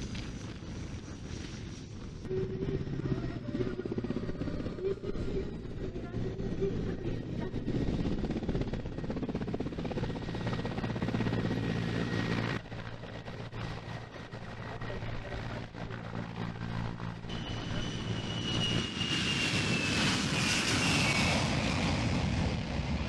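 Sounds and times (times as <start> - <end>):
helicopter rotor blades chopping: 0.0 - 22.8
turbine whine: 0.0 - 23.0.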